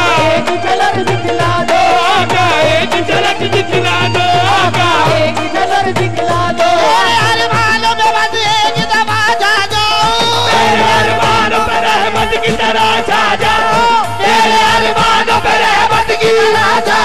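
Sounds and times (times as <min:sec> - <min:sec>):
backing singers singing: 0:00.0 - 0:08.8, 0:09.9 - 0:17.0
harmonium: 0:00.0 - 0:17.0
percussion beat: 0:00.0 - 0:17.0.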